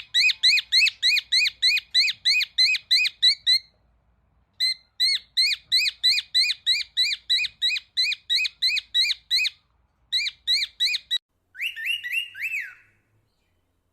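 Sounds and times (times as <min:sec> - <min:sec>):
cockatiel chirping: 0:00.0 - 0:03.8, 0:04.6 - 0:13.5.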